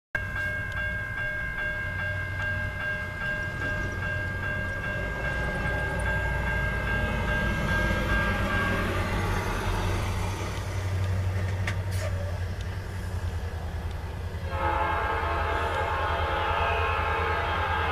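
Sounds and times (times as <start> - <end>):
diesel locomotive engines rumbling: 0.2 - 17.9.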